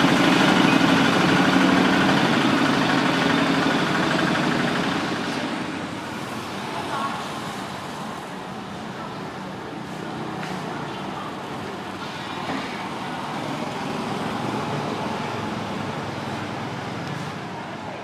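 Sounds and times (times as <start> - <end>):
passing traffic noise: 0.0 - 18.0.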